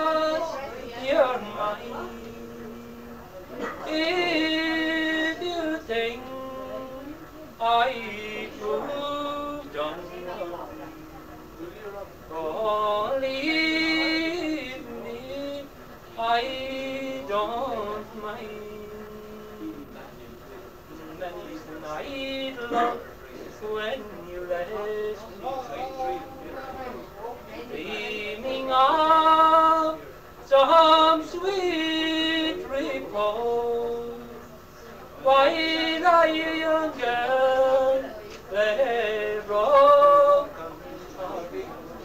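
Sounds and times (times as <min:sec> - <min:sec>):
man singing unaccompanied: 0:00.0 - 0:42.0.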